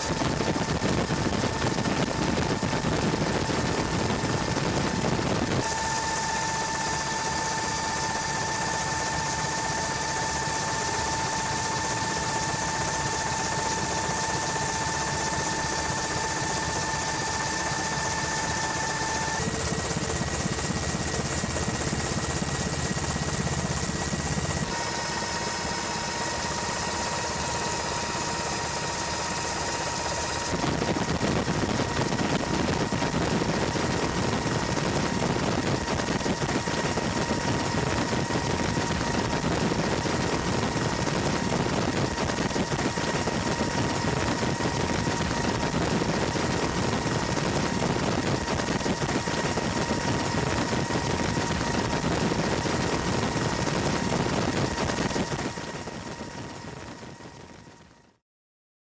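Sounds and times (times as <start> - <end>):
high whine: 0.0 - 57.6
helicopter engine and rotor roar: 0.0 - 58.2.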